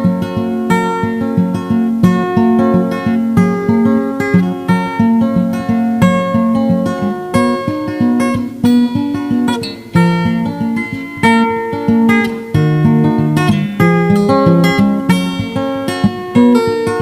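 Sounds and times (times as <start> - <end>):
acoustic guitar plucking: 0.0 - 17.0.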